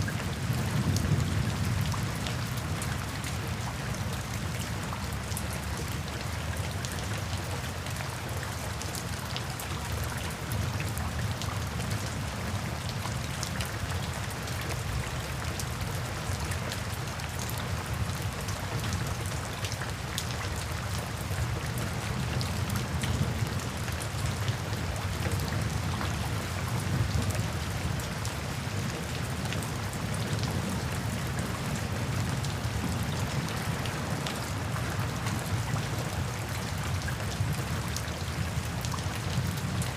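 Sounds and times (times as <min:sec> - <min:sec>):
rain falling: 0:00.0 - 0:39.9
raindrops pattering: 0:00.0 - 0:39.9.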